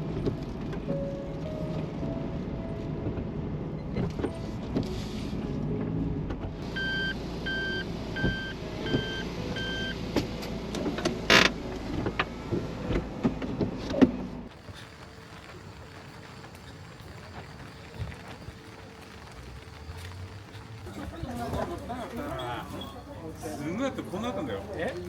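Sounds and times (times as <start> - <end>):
low engine and road rumble: 0.0 - 25.0.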